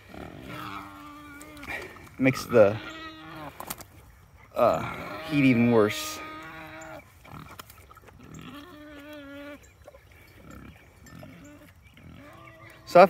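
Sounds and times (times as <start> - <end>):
pig grunting: 0.0 - 3.8, 4.4 - 13.0.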